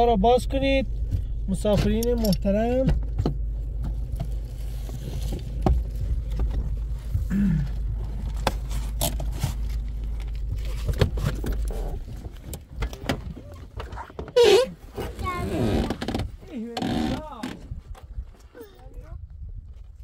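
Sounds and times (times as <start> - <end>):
car engine rumble inside cabin: 0.0 - 16.7.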